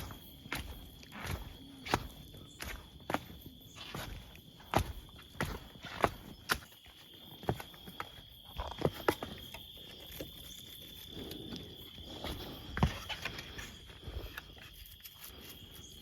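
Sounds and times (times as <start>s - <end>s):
footsteps on forest path: 0.0s - 16.0s.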